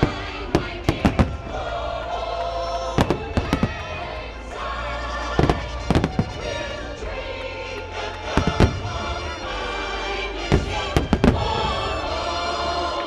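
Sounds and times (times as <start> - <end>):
fireworks bangs: 0.0 - 12.4
show music: 0.0 - 13.0.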